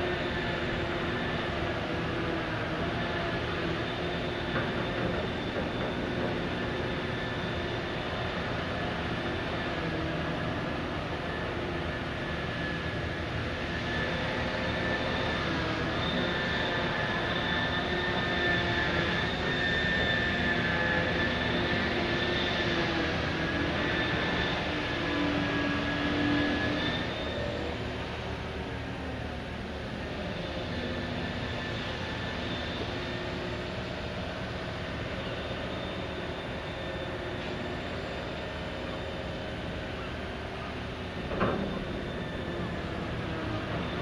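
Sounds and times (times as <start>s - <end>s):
dredger engine drone: 0.0s - 44.0s
high steady machinery whine: 0.0s - 44.0s.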